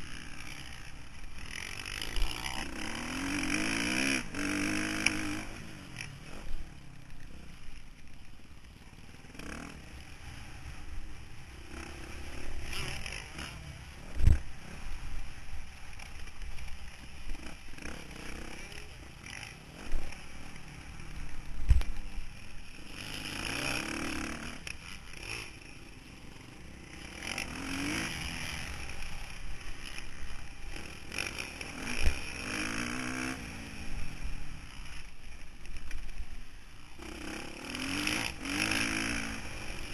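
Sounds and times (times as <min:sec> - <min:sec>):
motocross bike engine revving: 0:00.0 - 0:07.6, 0:09.0 - 0:39.9.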